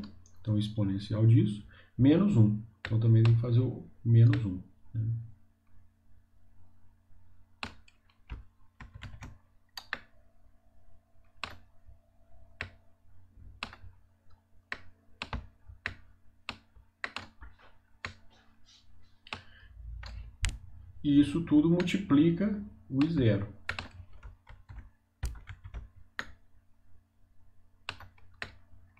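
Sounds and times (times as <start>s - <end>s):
faint electrical hum: 0.0s - 28.9s.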